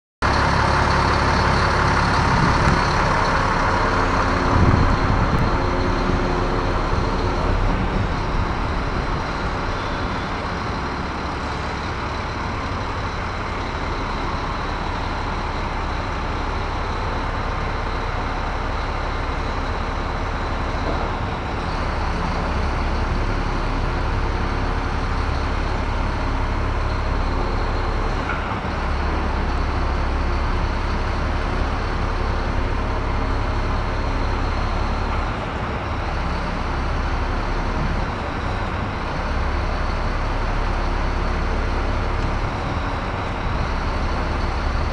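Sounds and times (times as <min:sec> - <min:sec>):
forklift engine and hydraulics: 0:00.2 - 0:44.9.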